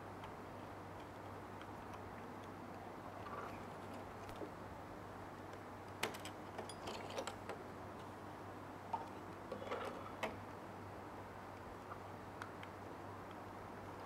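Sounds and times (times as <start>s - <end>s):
faint steady low hum: 0.0s - 14.0s.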